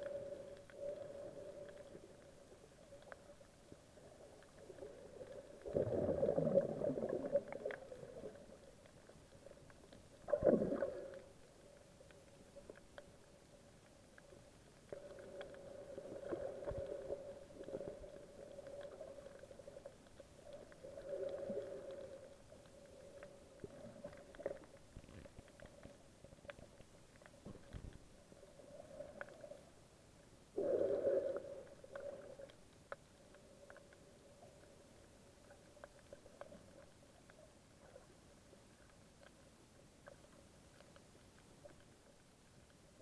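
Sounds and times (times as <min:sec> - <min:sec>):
faint clicks: 0:00.0 - 0:43.0
low underwater hum: 0:00.0 - 0:43.0
muffled whooshes of moving water: 0:00.0 - 0:43.0.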